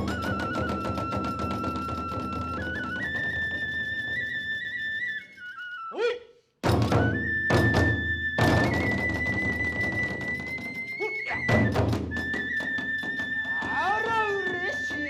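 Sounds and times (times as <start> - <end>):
bamboo flute melody: 0.0 - 15.0.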